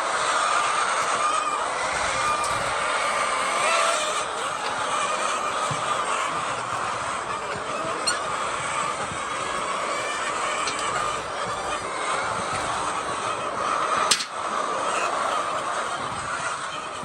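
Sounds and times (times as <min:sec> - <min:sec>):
flock of chickens clucking: 0:00.0 - 0:17.0.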